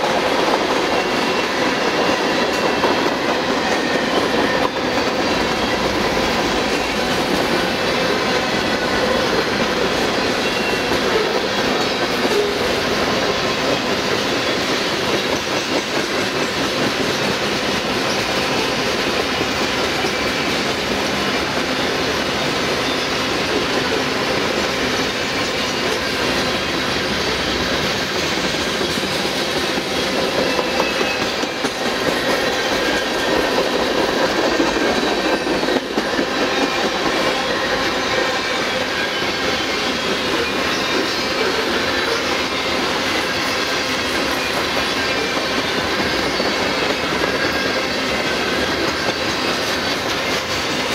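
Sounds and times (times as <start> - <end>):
freight train cars rolling: 0.0 - 50.9
wheels clacking over rail joints: 0.0 - 50.9.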